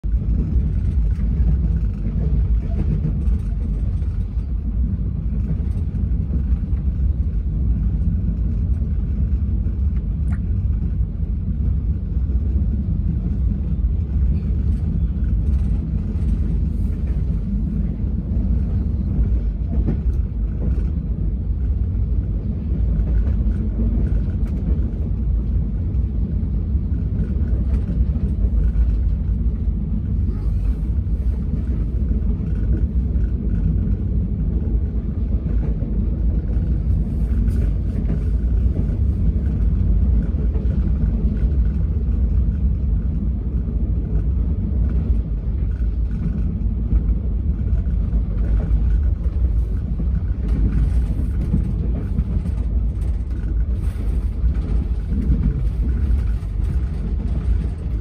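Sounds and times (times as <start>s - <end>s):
train rumble from inside coach: 0.0s - 58.0s.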